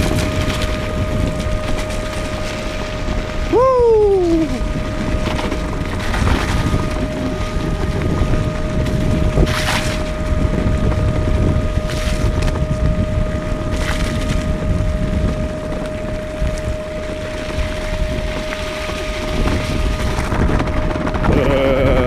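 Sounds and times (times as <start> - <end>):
electric motor whine: 0.0 - 22.0
wind buffeting microphone: 0.0 - 22.0.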